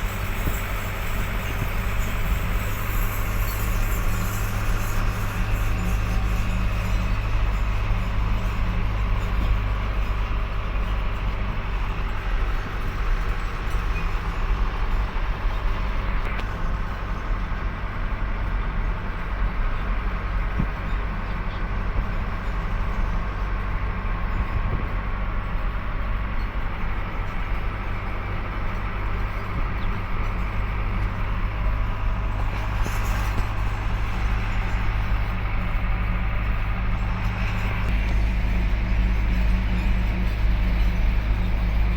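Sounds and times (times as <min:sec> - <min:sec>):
road noise: 0:00.0 - 0:41.9
truck engine drone: 0:00.0 - 0:41.9.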